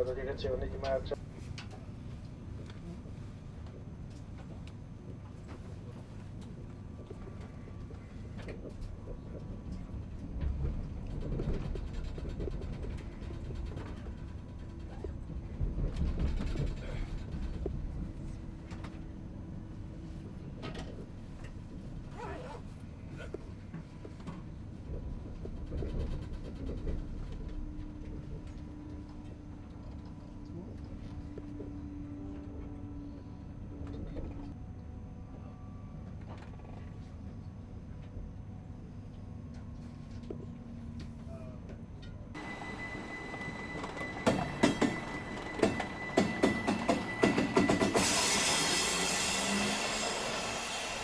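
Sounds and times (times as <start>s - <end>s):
railway low rumble: 0.0s - 51.0s.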